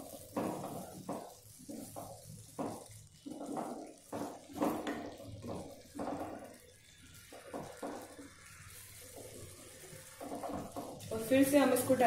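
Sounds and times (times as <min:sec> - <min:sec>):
spatula stirring thick gravy: 0:00.0 - 0:12.0.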